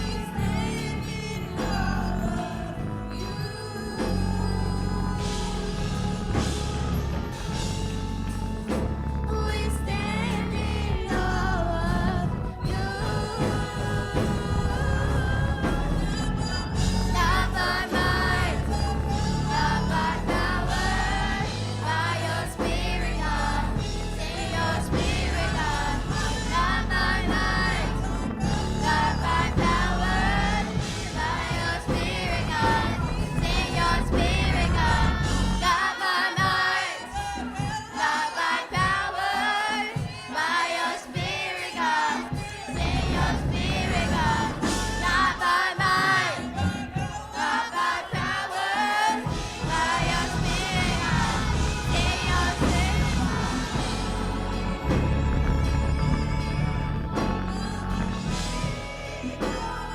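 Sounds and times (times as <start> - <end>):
heavy bass: 0.0 - 35.8, 42.8 - 46.2, 49.3 - 59.9
band playing: 0.0 - 59.9
gospel choir and congregation singing: 0.0 - 59.9.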